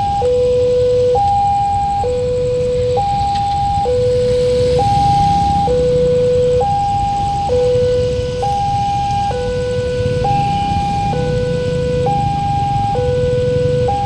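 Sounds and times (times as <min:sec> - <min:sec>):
level crossing alarm two-tone: 0:00.0 - 0:14.0
low rumble: 0:02.4 - 0:14.0.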